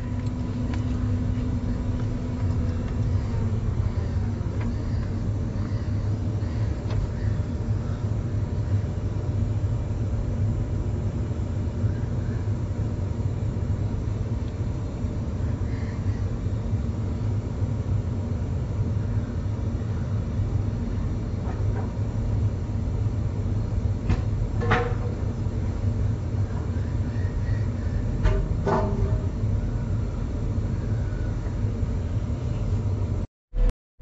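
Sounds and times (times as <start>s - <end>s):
excavator low rumble: 0.0s - 33.7s.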